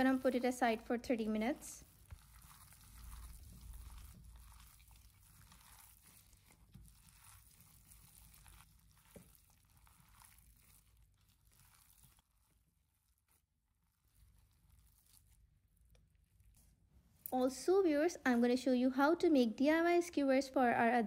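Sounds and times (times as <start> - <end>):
gloves crinkling: 0.0 - 17.6
wet squishing of kneaded mince: 0.0 - 21.0.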